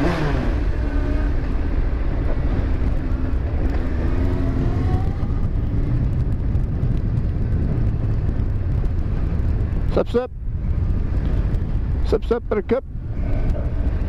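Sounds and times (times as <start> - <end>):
motorcycle engine rumble: 0.0 - 14.0
wind on microphone: 0.0 - 14.0.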